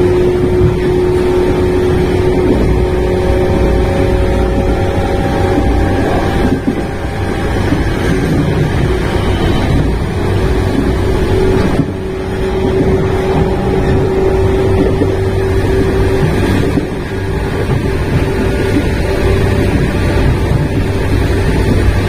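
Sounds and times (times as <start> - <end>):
electric train running: 0.0 - 22.0
rail-joint clatter: 0.0 - 22.0
steady train hum: 0.0 - 22.0.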